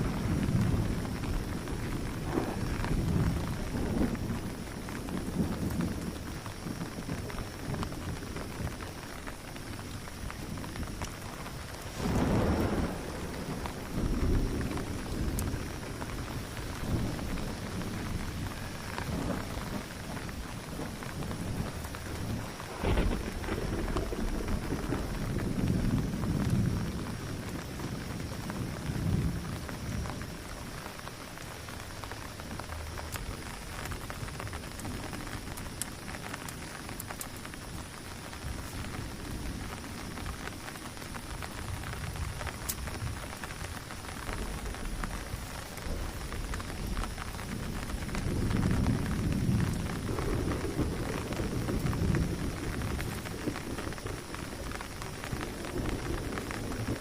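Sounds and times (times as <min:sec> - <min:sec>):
heavy rain falling: 0:00.0 - 0:57.0
raindrops ticking: 0:00.0 - 0:57.0
thunder rumbling: 0:00.0 - 0:57.0.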